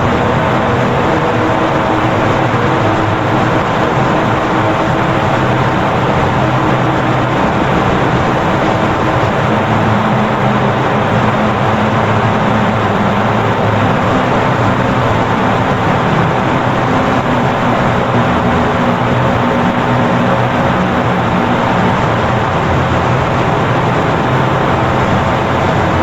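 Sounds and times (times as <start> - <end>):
loud droning with low tones: 0.0 - 26.0.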